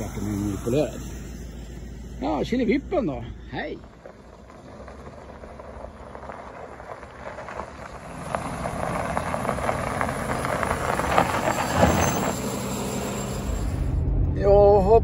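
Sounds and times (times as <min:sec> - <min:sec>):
tyres crackling over gravel: 0:00.0 - 0:13.7
truck engine running: 0:00.0 - 0:15.0.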